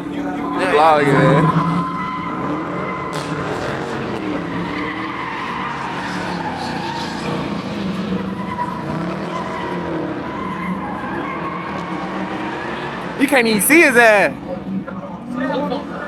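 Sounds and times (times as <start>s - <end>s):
car engine at high revs: 0.0s - 16.0s
tyres squealing: 0.3s - 14.5s.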